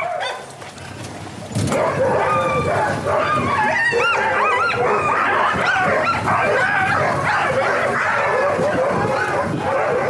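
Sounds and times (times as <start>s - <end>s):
sled dogs yipping and barking: 0.0s - 10.0s.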